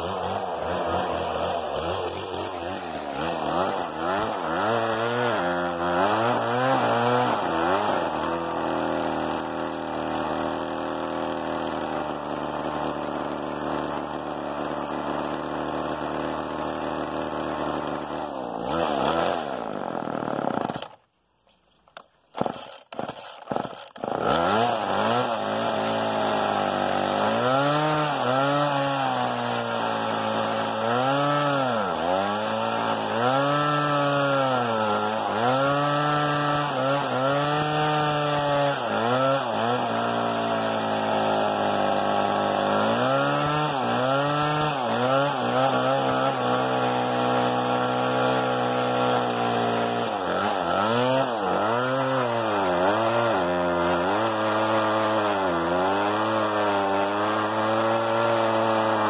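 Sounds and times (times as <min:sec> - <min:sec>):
chainsaw cutting log: 0:00.0 - 0:21.2, 0:21.8 - 0:59.0.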